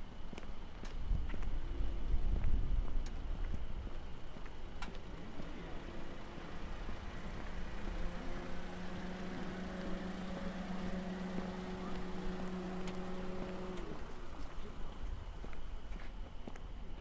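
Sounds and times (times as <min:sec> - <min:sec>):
vehicle engine running: 0:03.2 - 0:17.0.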